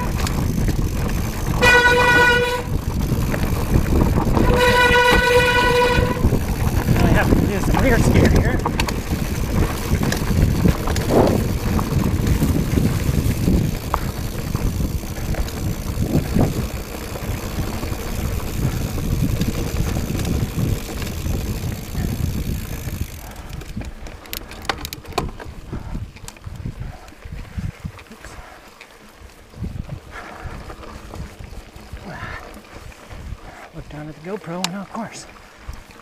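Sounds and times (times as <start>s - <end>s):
wind buffeting microphone: 0.0s - 34.4s
bike tyres rumbling on dirt: 0.0s - 36.0s.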